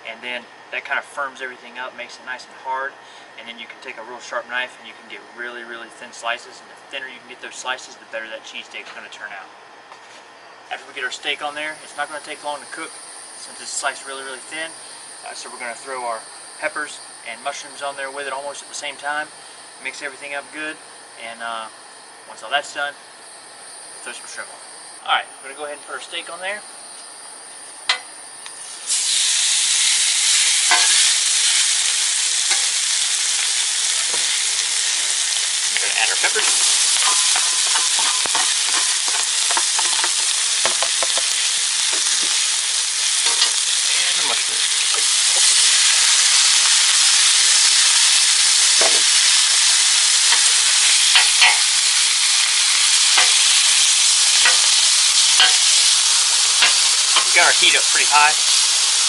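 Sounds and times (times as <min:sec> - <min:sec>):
meat sizzling on a griddle: 0:10.9 - 0:59.0.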